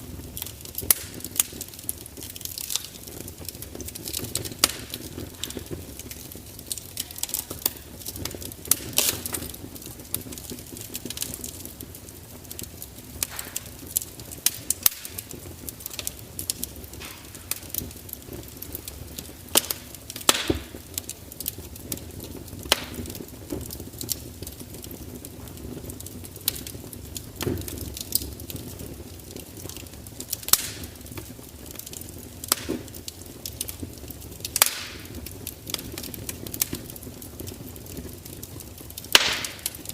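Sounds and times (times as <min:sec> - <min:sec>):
fire pops and snaps: 0:00.0 - 0:39.9
open fire crackling: 0:00.0 - 0:39.9.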